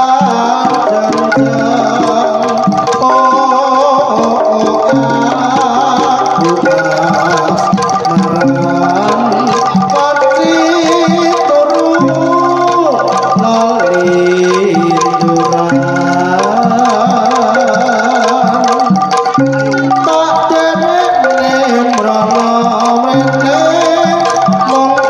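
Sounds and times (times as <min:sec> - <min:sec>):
amplified gamelan music: 0:00.0 - 0:25.0
gong and metallophone tones: 0:00.0 - 0:25.0
hand drums: 0:00.0 - 0:25.0
sliding melody line: 0:00.0 - 0:25.0.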